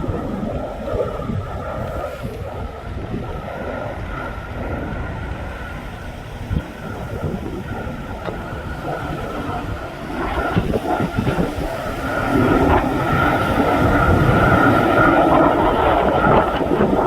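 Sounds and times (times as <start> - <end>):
jet aircraft roar: 0.0 - 17.0
wind buffeting microphone: 0.0 - 17.0.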